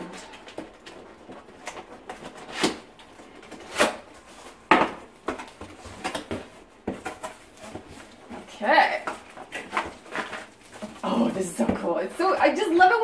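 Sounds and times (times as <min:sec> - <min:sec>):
cardboard box rustling: 0:00.3 - 0:12.8.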